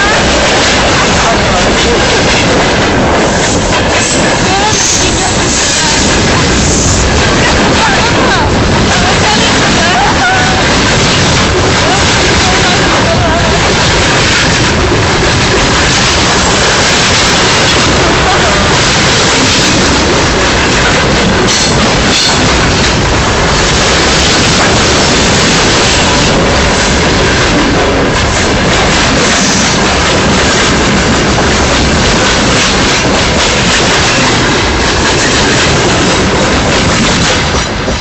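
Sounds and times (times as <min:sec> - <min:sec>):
train wheels on rail: 0:00.0 - 0:38.0.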